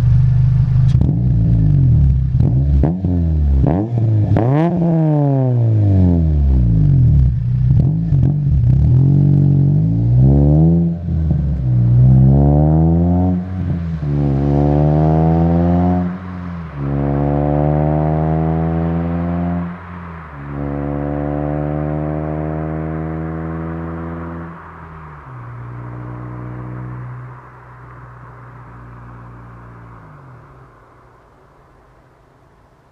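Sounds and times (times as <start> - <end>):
car engine accelerating through gears: 0.0 - 31.0.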